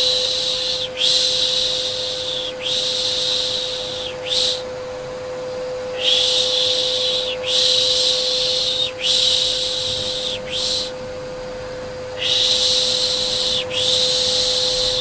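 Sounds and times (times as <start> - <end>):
person shushing: 0.0 - 4.7, 6.0 - 10.9, 12.2 - 15.0
vacuum cleaner hum: 0.0 - 15.0.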